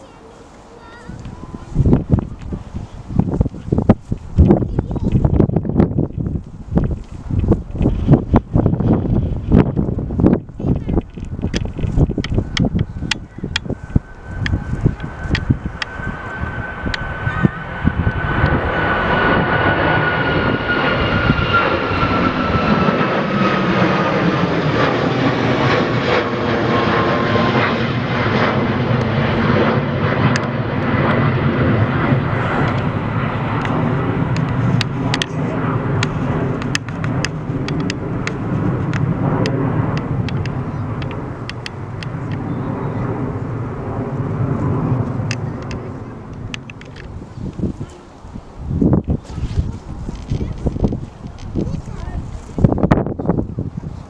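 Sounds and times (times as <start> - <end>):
high jet engine whine: 0.0 - 54.0
jet engine roar: 0.0 - 54.0.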